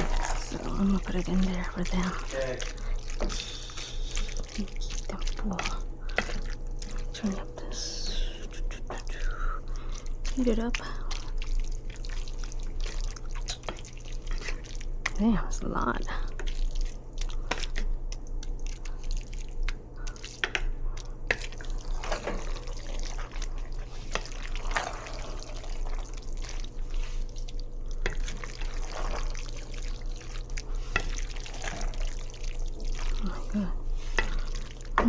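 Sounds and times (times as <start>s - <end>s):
steady low hum: 0.0s - 35.0s
utensil stirring in a pot: 0.0s - 35.0s.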